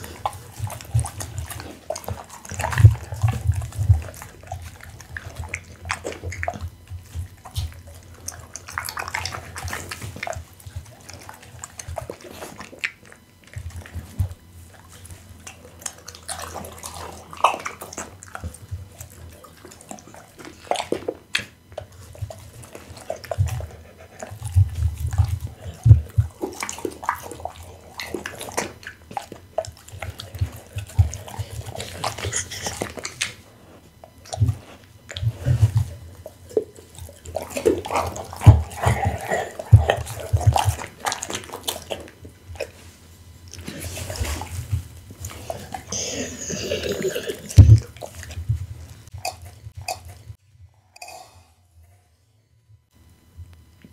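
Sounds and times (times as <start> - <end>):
dog chewing wet meat: 0.0 - 50.4.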